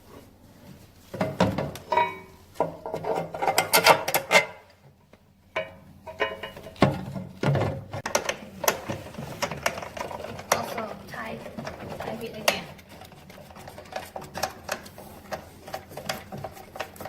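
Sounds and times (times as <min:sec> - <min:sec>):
metal parts knocking and clunking: 0:01.2 - 0:04.7, 0:05.5 - 0:17.0.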